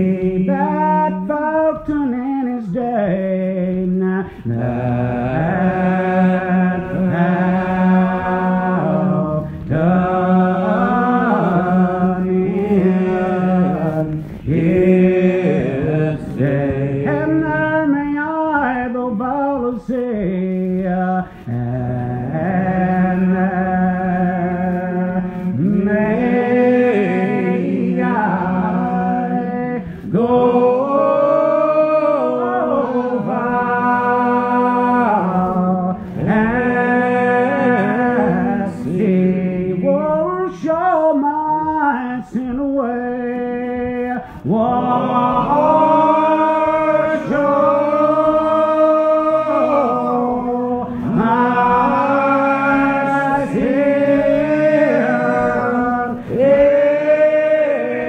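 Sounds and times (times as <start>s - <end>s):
group singing a hymn unaccompanied: 0.0s - 58.0s.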